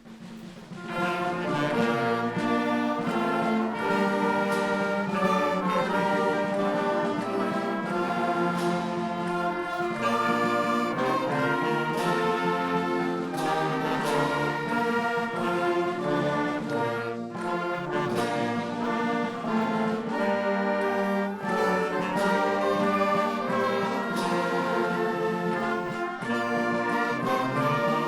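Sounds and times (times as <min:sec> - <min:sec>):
brass band playing held chords: 0:00.0 - 0:28.0.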